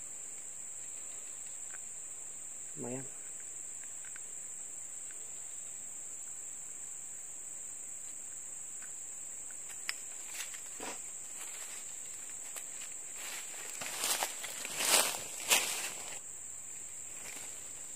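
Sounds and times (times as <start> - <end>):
insect chorus drone: 0.0 - 17.9.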